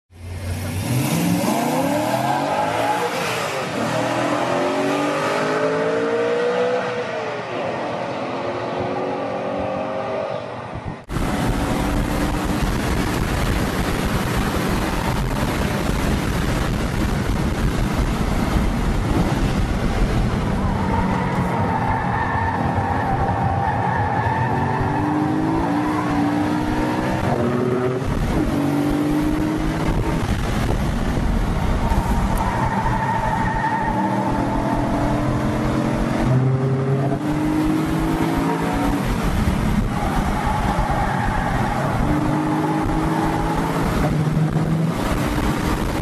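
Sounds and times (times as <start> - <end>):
car engine at speed: 0.1 - 46.0
car engines revving: 0.1 - 46.0
wind and road noise: 0.1 - 46.0.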